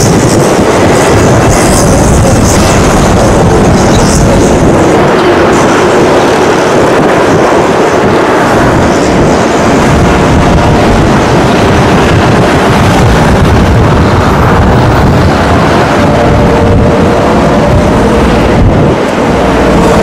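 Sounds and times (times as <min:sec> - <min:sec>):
jet engine roar on landing: 0:00.0 - 0:20.0
wind rumbling on microphone: 0:00.0 - 0:20.0.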